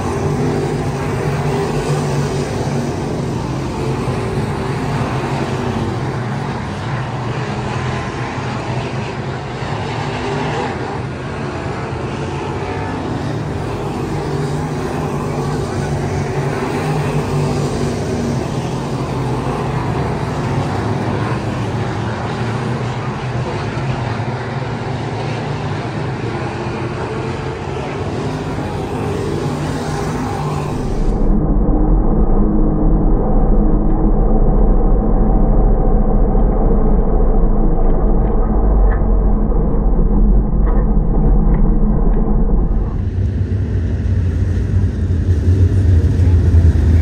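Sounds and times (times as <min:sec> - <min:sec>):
race car engines: 0:00.0 - 0:47.0.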